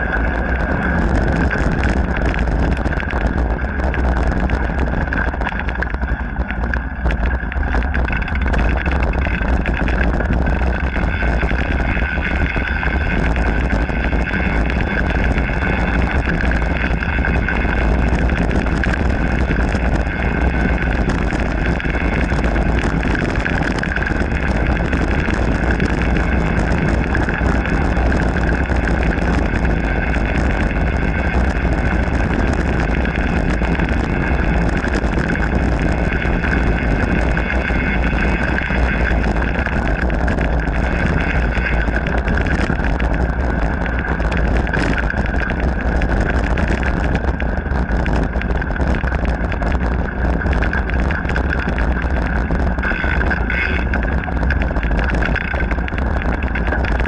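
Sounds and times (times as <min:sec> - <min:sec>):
bike rattling: 0:00.0 - 0:57.0
bike tyre rumble on dirt: 0:00.0 - 0:57.0
constant hum: 0:00.0 - 0:57.0
wind buffeting microphone: 0:00.0 - 0:57.0.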